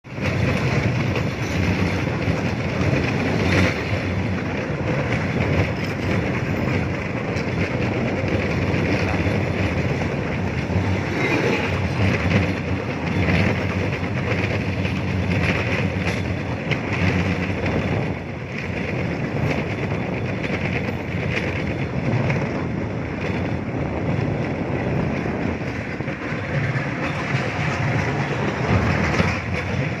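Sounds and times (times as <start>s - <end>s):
rail platform riding the track: 0.0s - 30.0s.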